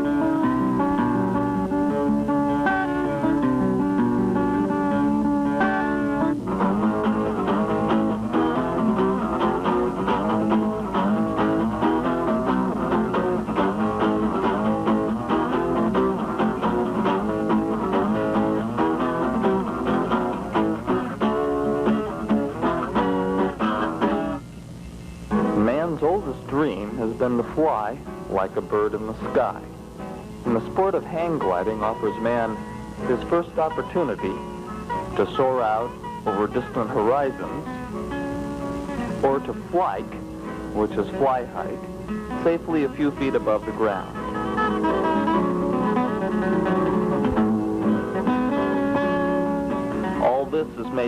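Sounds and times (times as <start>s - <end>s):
guitar background music: 0.0s - 51.0s.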